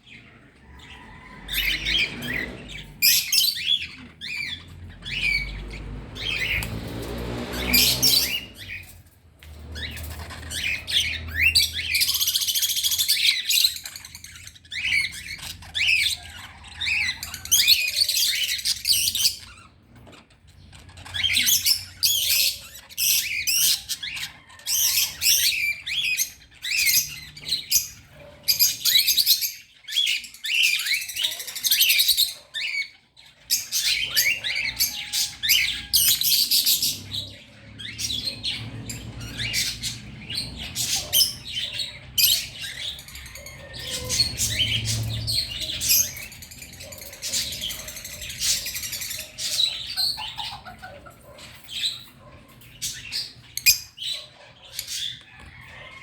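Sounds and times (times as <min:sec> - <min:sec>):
flock of small birds chirping: 0:00.0 - 0:56.0.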